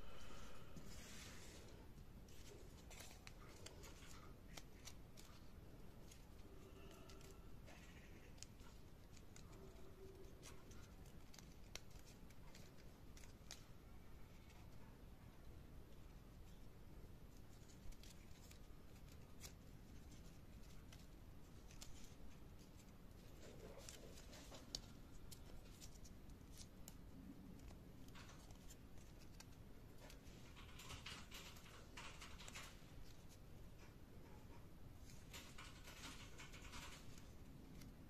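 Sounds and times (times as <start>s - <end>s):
paper crinkling and clicking: 2.2s - 14.9s, 17.3s - 38.0s.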